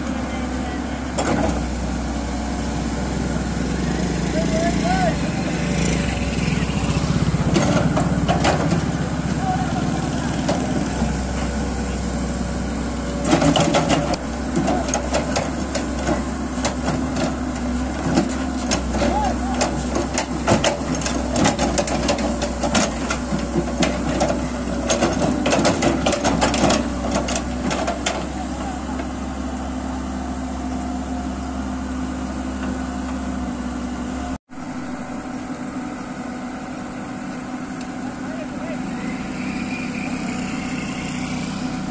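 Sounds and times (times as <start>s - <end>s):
excavator engine running: 0.0s - 41.9s.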